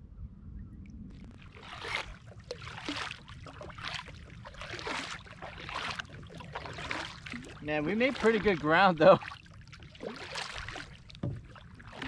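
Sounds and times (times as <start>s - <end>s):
paddle splashing in water: 1.2s - 12.0s.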